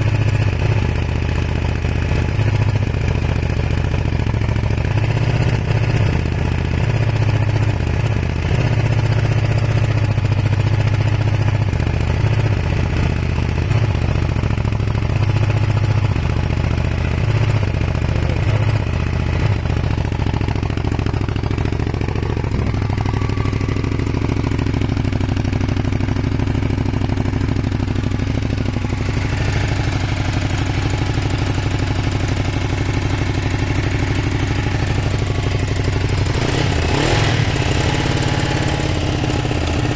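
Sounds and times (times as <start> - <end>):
motorcycle engine running unevenly: 0.0 - 39.9.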